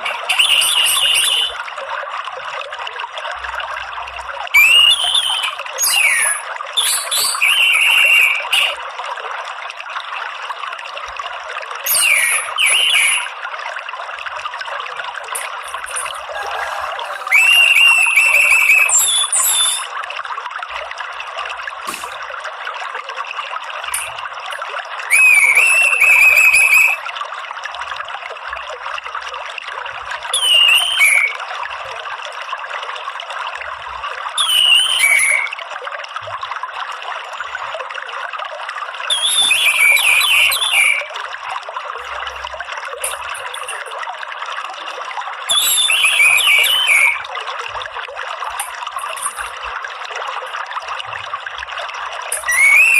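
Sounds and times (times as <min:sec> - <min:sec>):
trickle of running water: 0:00.0 - 0:52.9.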